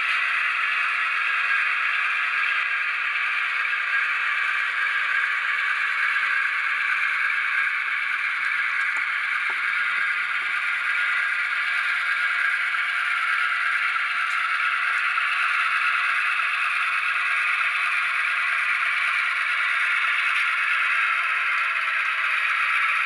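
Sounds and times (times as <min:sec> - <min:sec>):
tinny diesel engine sound from speaker: 0:00.0 - 0:23.0.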